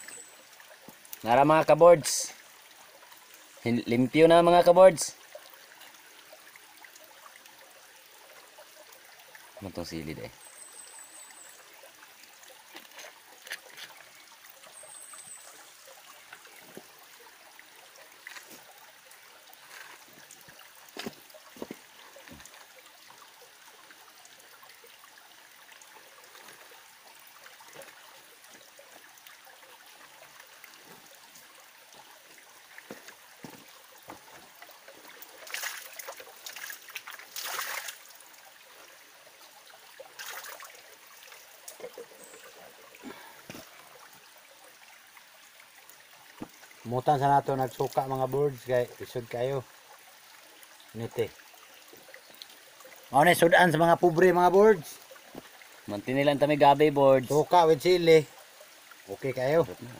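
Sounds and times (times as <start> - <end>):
stream trickling over rocks: 0.0 - 59.9
water splashes: 0.0 - 59.9.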